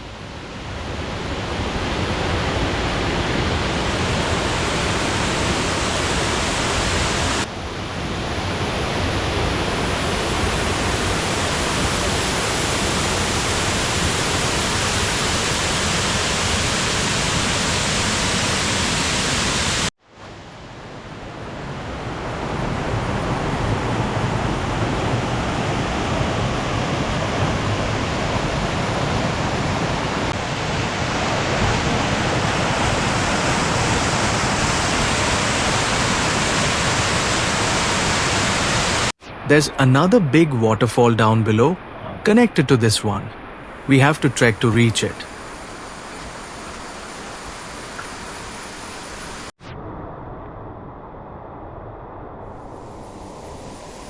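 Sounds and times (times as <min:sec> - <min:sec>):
waterfall roaring: 0:01.2 - 0:19.9, 0:22.1 - 0:40.5, 0:41.1 - 0:49.5.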